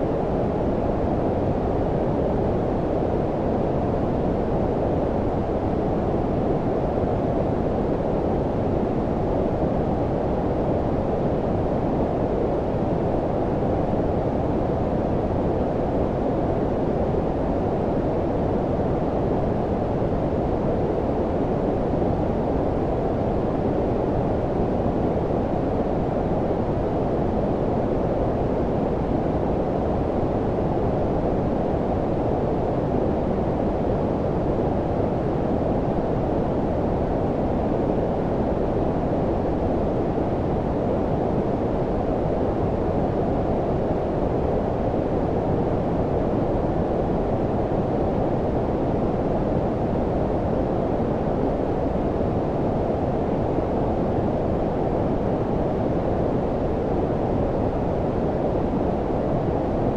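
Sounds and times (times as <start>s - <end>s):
low-frequency white noise: 0.0s - 59.9s.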